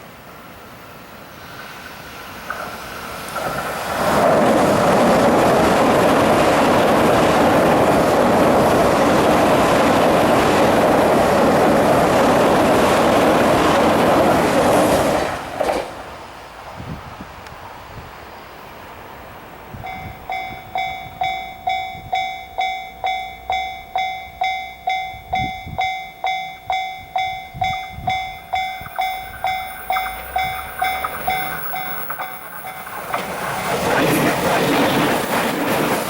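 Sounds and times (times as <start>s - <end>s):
electric train passing: 0.0s - 36.0s.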